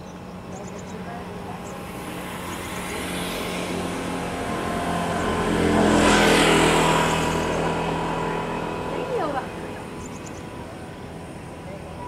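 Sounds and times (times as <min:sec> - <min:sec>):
vehicle passing by: 0:00.3 - 0:12.0.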